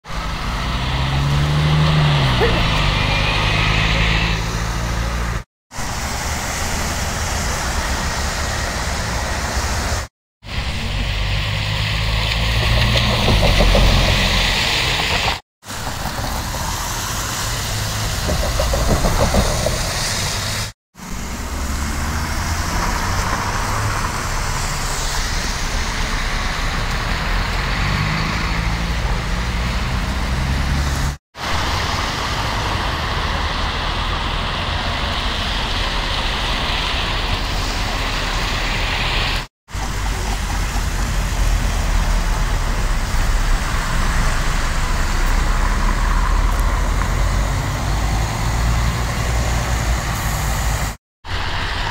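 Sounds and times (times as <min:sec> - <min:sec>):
bus engines running: 0:00.0 - 0:51.9
tyres on wet slushy road: 0:00.0 - 0:51.9.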